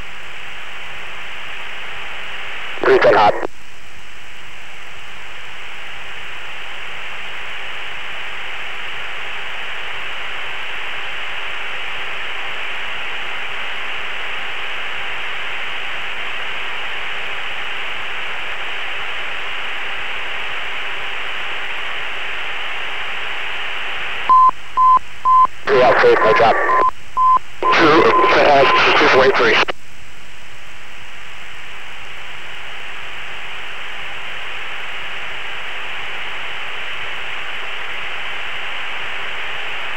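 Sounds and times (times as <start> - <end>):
radio hiss: 0.0 - 3.6, 5.1 - 29.8, 31.4 - 39.9
faint steady hum: 0.0 - 39.9.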